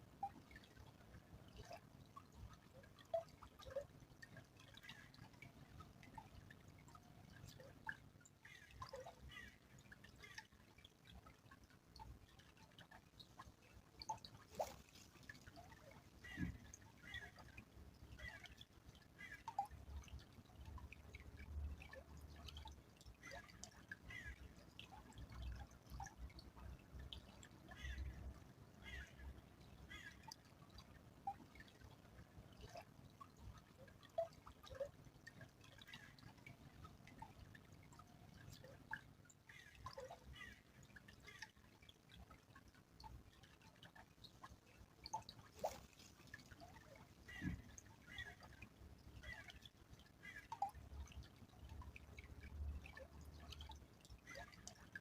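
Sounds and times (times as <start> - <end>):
stream trickling: 0.0 - 55.0
water plinks and drips: 0.0 - 55.0.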